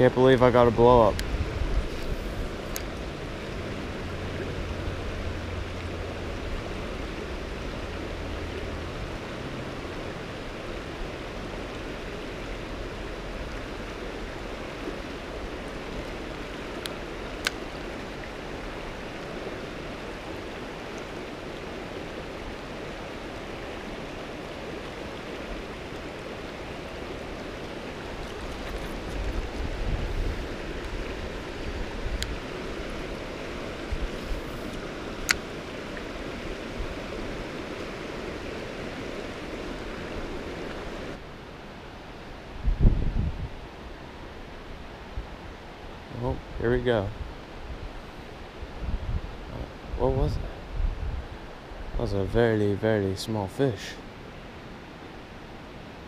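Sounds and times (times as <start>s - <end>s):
creek water running over rocks: 0.0s - 56.0s.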